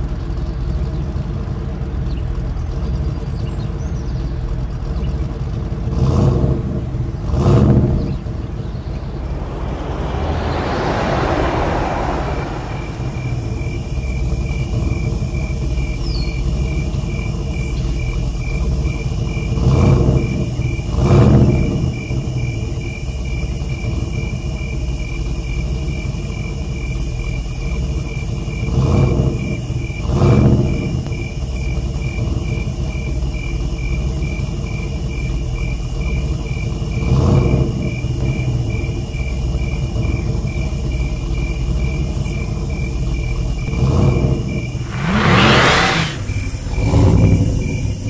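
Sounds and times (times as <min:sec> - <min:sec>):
truck engine rumbling: 0:00.0 - 0:48.0
crickets chirping: 0:08.0 - 0:48.0.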